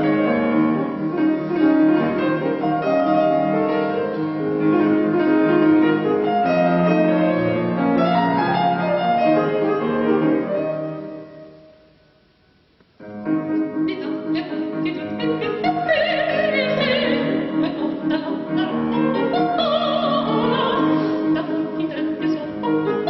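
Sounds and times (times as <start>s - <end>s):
grand piano playing: 0.0s - 11.9s, 13.0s - 23.0s.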